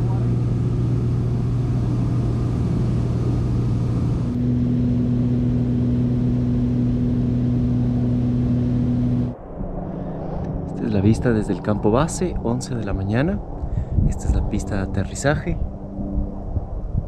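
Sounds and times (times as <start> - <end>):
higher engine tone: 0.0 - 17.0
propeller plane engine droning: 0.0 - 17.0.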